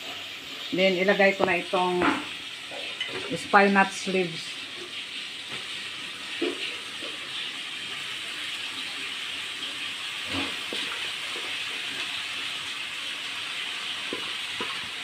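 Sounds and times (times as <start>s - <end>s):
wok sizzling: 0.0s - 15.0s.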